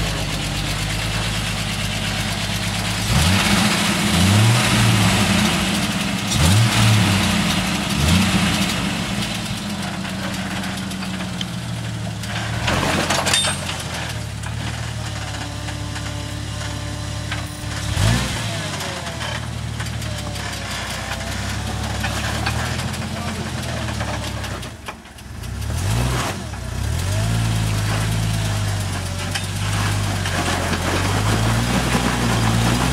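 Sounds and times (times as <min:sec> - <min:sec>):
engine revving at low speed: 0:00.0 - 0:11.2, 0:12.2 - 0:24.8, 0:25.4 - 0:32.9.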